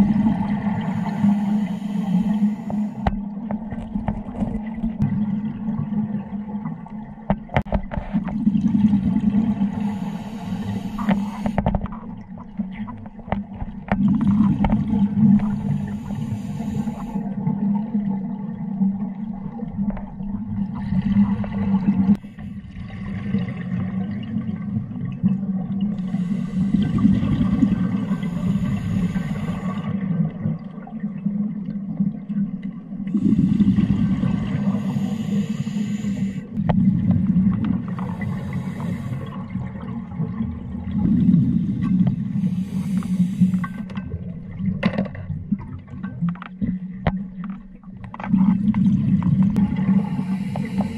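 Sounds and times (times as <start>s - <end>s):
underwater bubbles burbling: 0.0s - 50.9s.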